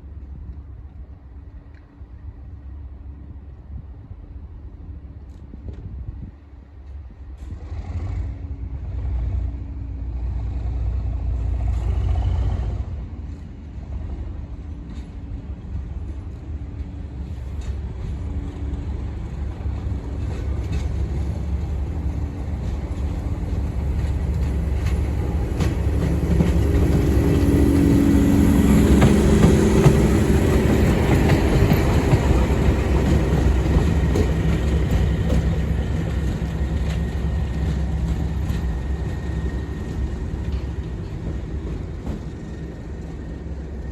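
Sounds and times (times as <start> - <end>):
diesel locomotive engines thrashing: 7.3 - 43.9.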